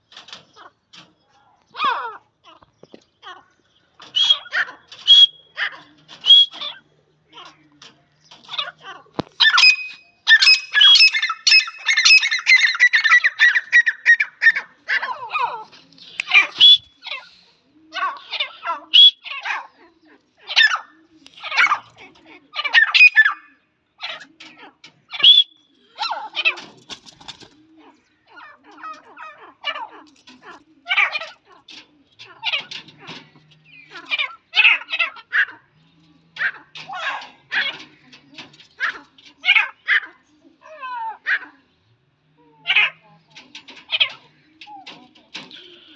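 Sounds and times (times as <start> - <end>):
francolins calling: 0.0 - 41.8, 42.6 - 45.9.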